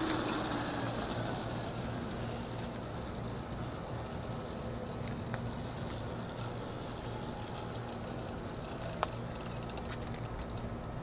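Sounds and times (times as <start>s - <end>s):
electric motorbike humming: 0.0s - 11.0s
outdoor background noise: 0.0s - 11.0s.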